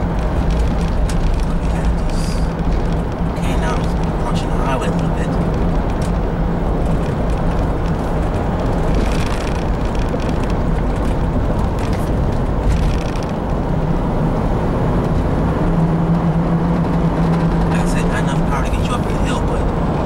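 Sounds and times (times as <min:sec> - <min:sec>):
car interior road noise: 0:00.0 - 0:20.0
constant low hum: 0:00.0 - 0:20.0.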